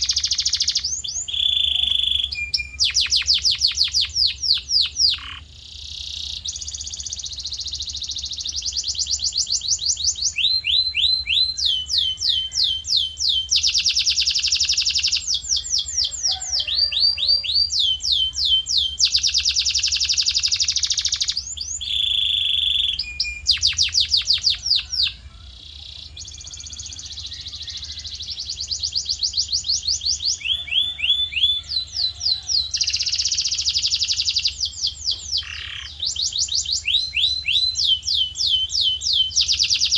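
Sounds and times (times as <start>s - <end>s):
canary steady whistle: 0.0s - 5.2s, 6.3s - 25.2s, 27.1s - 39.9s
canary singing trills: 0.0s - 39.9s.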